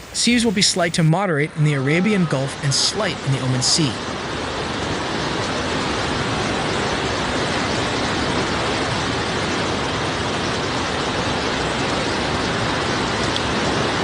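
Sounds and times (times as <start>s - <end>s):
heavy rain rushing: 0.0s - 14.0s.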